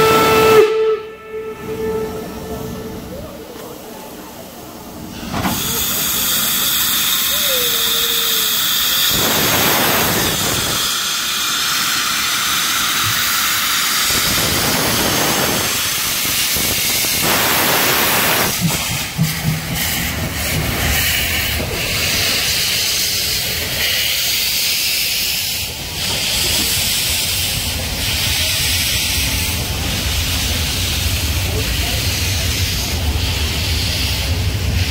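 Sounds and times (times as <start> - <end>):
train rushing on rails: 0.0 - 34.9.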